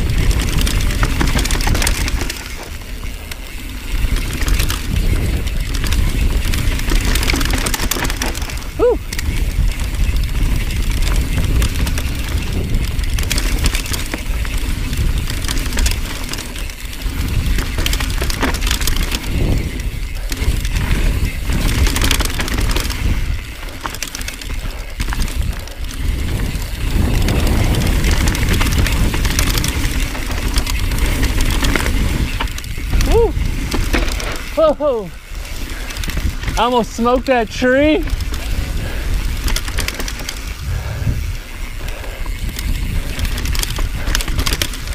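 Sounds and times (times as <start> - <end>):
bike rattling and clicking: 0.0 - 44.9
wind buffeting microphone: 0.0 - 44.9.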